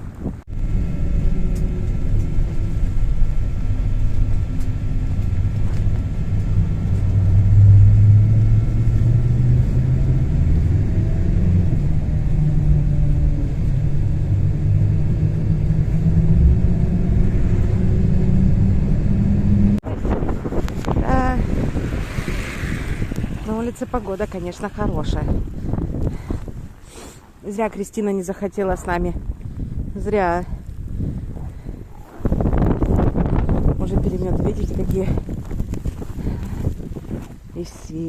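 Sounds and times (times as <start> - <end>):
blizzard wind buffeting microphone: 0.0 - 38.0.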